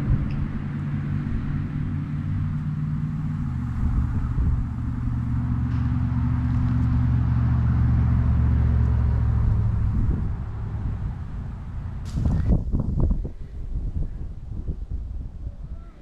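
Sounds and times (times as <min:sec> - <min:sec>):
engine running at low revs: 0:00.0 - 0:15.5.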